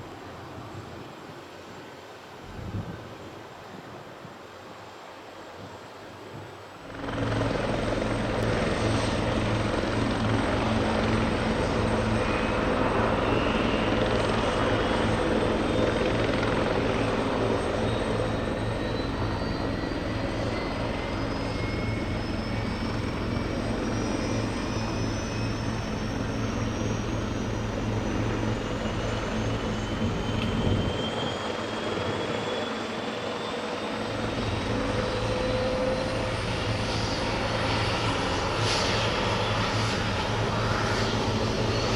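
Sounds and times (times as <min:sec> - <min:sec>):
turbine engine whine: 0:06.6 - 0:41.9
helicopter rotor beat: 0:06.8 - 0:41.9.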